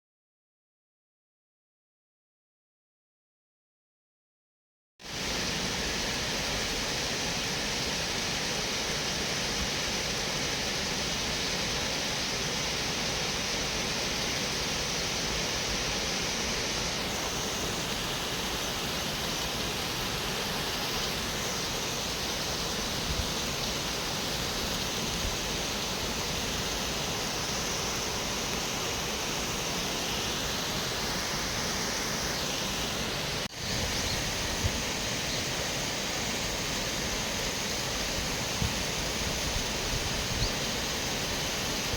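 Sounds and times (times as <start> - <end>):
waterfall roaring: 5.1 - 41.9.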